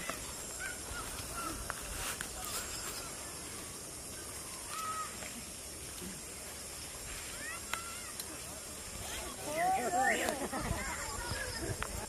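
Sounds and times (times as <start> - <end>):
birds chirping: 0.0 - 10.2.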